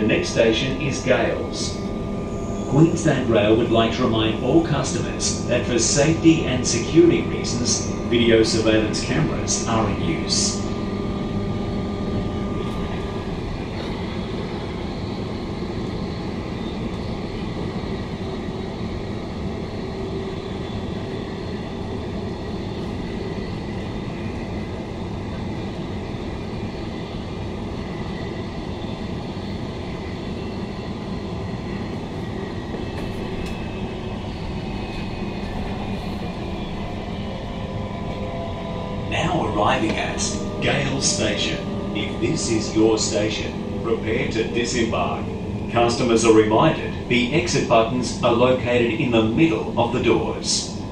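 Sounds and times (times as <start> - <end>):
faint steady tones: 0.0 - 50.8
train wheels rumbling on rails: 0.0 - 50.9.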